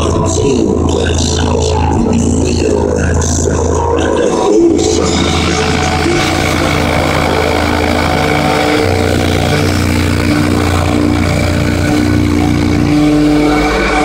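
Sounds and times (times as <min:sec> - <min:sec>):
bass-heavy music: 0:00.0 - 0:14.0.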